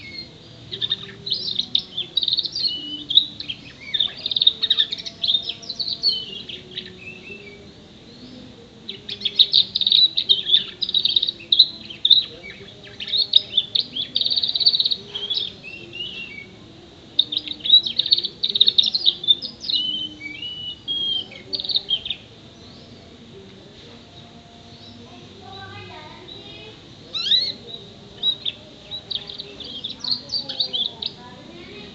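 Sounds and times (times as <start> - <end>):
canary singing trills and chirps: 0.0 - 31.9.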